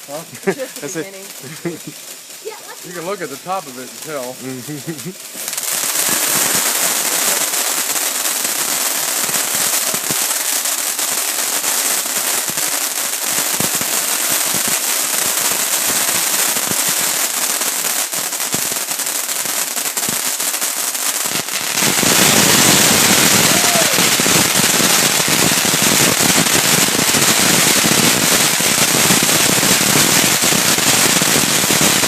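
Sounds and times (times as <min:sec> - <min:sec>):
firework fountain hissing and crackling: 0:00.0 - 0:32.0.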